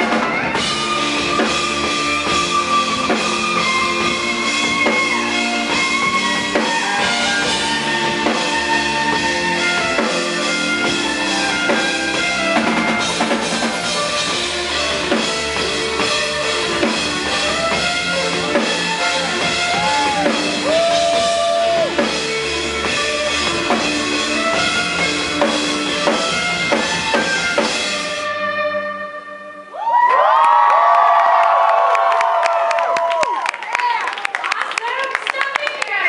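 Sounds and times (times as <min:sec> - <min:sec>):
amplified violin melody: 0:00.0 - 0:29.7.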